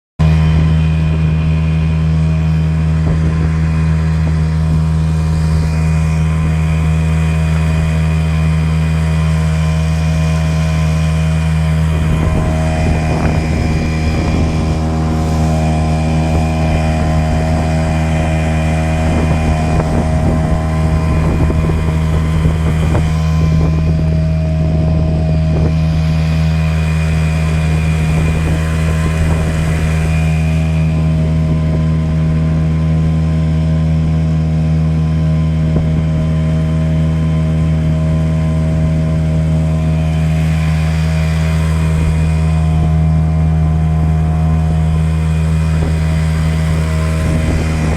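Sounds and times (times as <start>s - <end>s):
outboard motor running: 0.2s - 47.9s.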